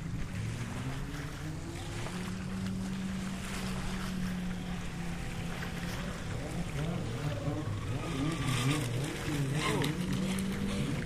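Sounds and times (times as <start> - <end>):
boat motor humming: 0.0 - 11.0
small waves on shore: 0.0 - 11.0.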